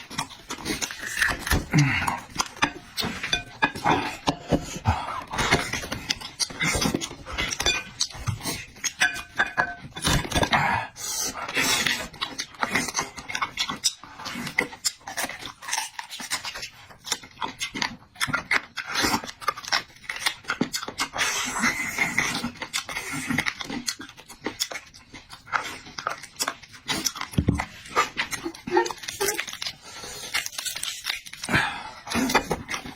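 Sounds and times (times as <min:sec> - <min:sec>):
wet chewing and slurping: 0:00.0 - 0:32.9.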